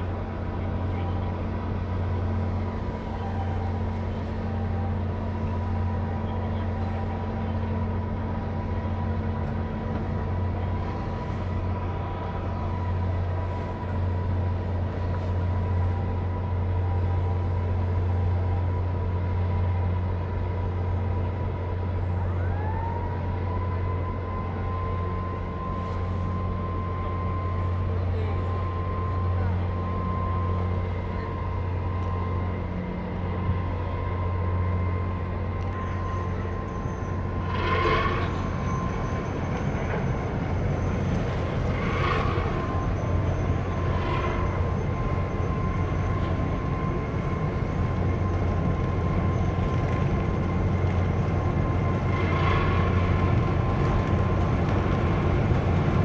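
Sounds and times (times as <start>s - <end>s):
low engine drone: 0.0s - 56.0s
thin whining tones: 0.0s - 56.0s.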